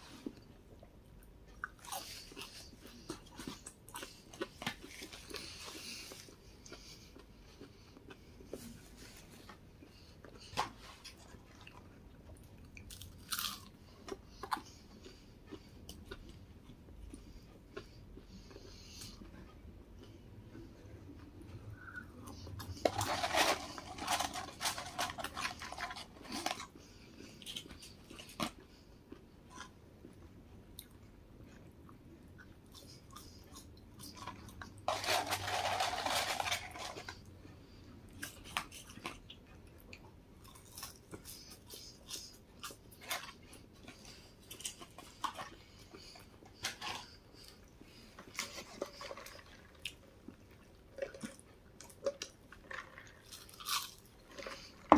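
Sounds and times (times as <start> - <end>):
person chewing: 0.1 - 37.2, 37.8 - 54.9.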